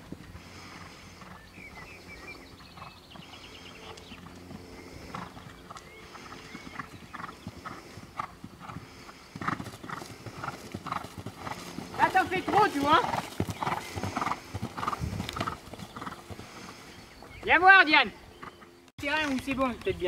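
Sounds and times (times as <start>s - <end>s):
horse hoofbeats on grass: 0.0s - 17.6s.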